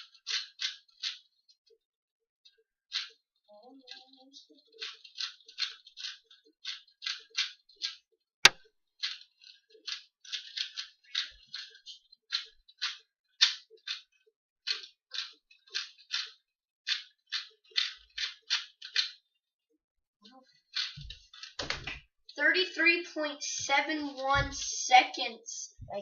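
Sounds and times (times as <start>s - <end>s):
puzzle cube plastic clicks: 0.0s - 1.3s, 2.9s - 3.1s, 3.9s - 19.2s, 20.7s - 25.1s.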